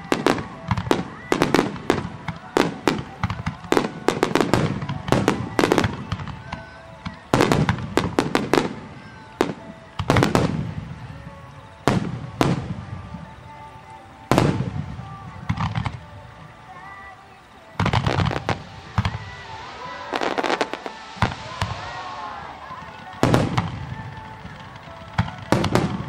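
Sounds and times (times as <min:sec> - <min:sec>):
firework bangs with echo: 0:00.0 - 0:13.4, 0:14.3 - 0:16.1, 0:17.7 - 0:26.0.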